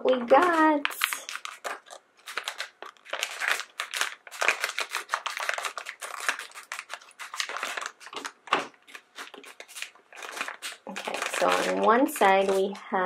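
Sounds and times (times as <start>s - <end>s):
plastic wrapper crinkling: 0.0s - 13.0s
scissors snipping plastic: 0.1s - 12.8s.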